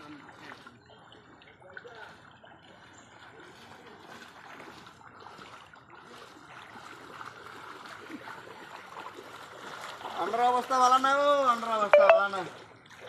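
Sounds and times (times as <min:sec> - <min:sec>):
floodwater rushing: 0:01.8 - 0:13.0.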